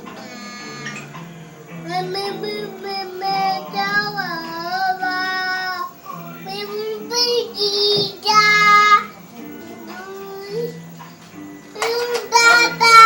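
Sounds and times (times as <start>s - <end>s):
child singing unaccompanied: 1.7s - 11.1s, 11.7s - 13.0s.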